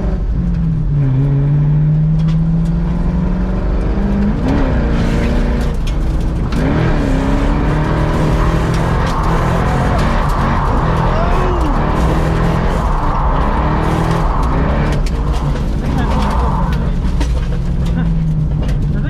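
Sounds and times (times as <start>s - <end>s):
car engine running at high load: 0.0s - 19.0s.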